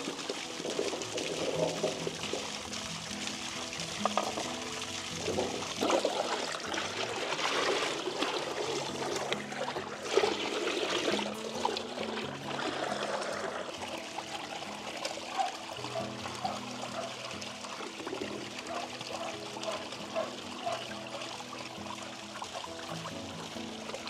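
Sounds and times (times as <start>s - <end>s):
background music low notes: 0.0s - 24.0s
water trickling and pouring: 0.0s - 24.0s.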